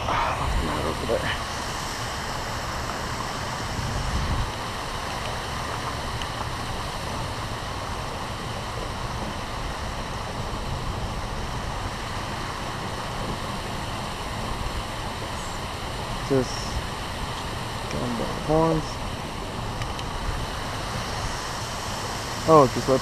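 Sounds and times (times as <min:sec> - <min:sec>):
low rumble: 0:00.0 - 0:23.0
river water rushing over rocks: 0:00.0 - 0:23.0.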